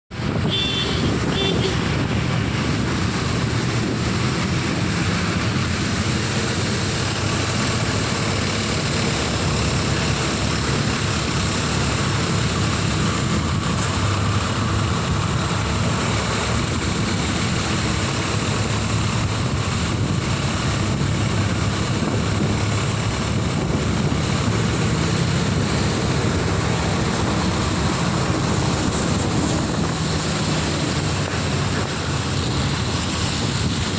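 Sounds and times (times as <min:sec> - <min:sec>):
rushing wind: 0:00.1 - 0:33.9
vehicle running hum: 0:00.1 - 0:33.9.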